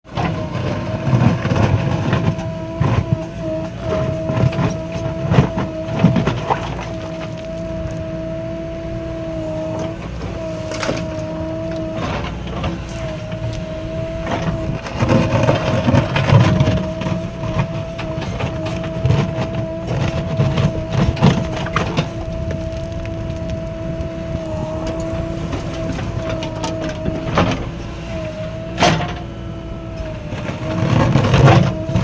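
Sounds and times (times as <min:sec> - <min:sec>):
backhoe loader whine: 0:00.0 - 0:32.0
diesel engine rumble: 0:00.0 - 0:32.0.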